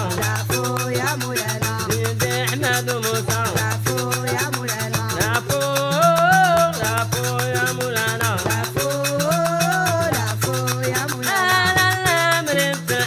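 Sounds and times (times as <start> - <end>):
latin-style music: 0.0 - 13.0
shaker rhythm: 0.0 - 13.0.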